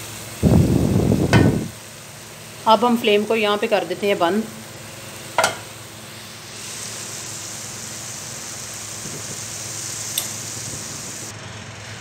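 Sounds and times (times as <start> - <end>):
chicken sizzling in pot: 0.0 - 12.0.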